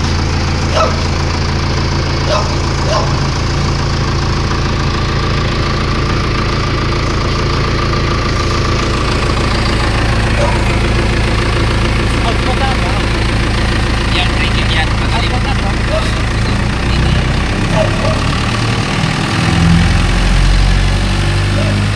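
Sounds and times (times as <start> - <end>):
diesel generator engine running: 0.0 - 21.9.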